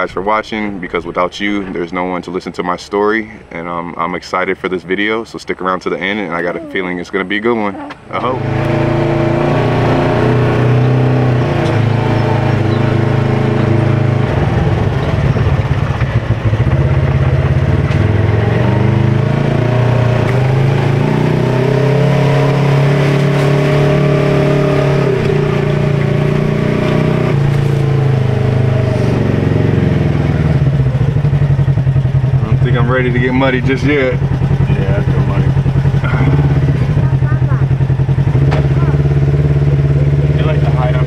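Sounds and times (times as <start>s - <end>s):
off-road vehicle engine revving: 6.0s - 41.0s.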